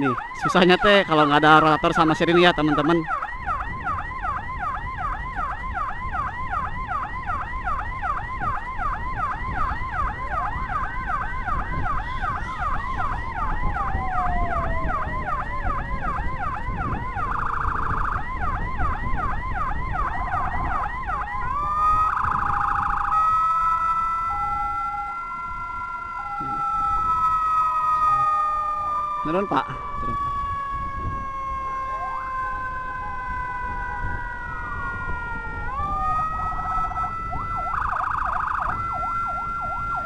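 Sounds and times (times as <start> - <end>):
tone gliding downward: 0.0 - 5.9, 7.3 - 30.6, 31.2 - 40.0
electronic siren yelping: 0.0 - 40.0.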